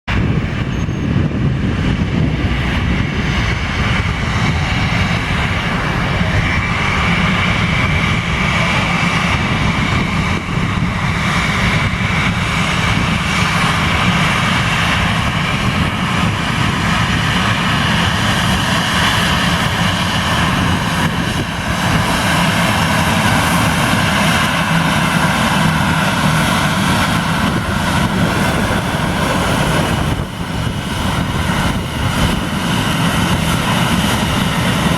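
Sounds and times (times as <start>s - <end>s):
jet engines roaring with whine: 0.1s - 34.9s.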